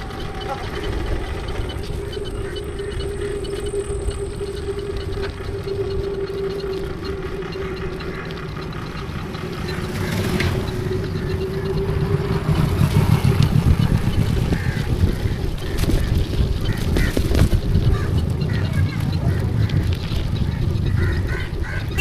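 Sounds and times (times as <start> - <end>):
motorcycle engine running: 0.0 - 22.0
wind rumble on microphone: 0.0 - 22.0.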